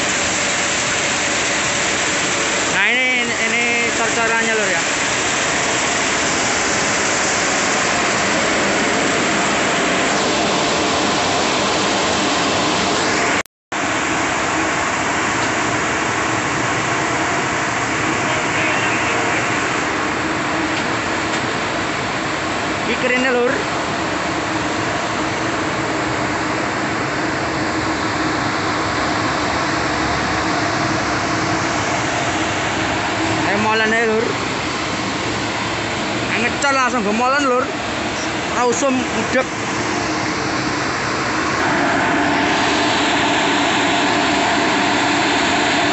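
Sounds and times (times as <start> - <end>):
concrete mixer truck running: 0.0 - 45.9.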